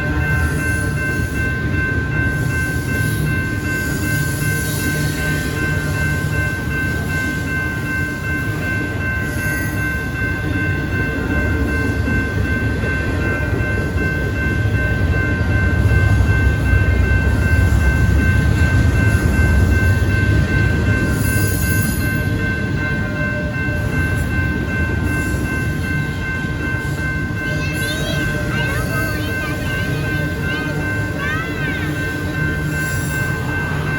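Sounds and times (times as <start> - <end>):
steady high-pitched tones: 0.0 - 33.9
train rumbling past: 0.0 - 33.9.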